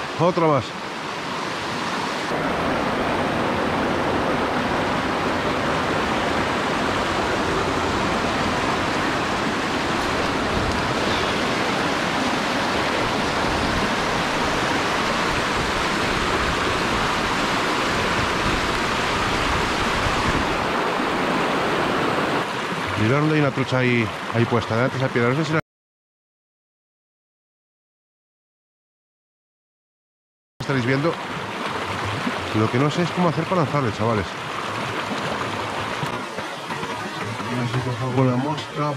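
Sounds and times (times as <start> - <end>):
stream water rushing: 0.0 - 25.6, 30.6 - 38.9.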